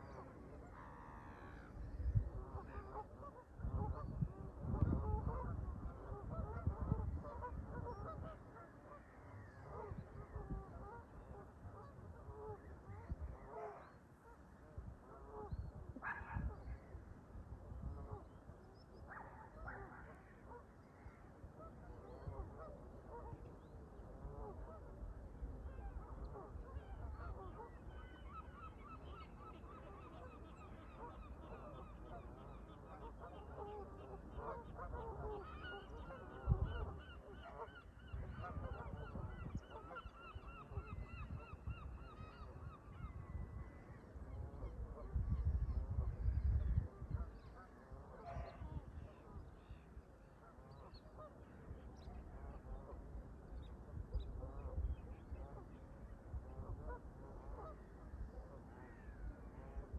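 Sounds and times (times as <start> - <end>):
wind rumble on microphone: 0.0 - 28.6, 33.0 - 59.9.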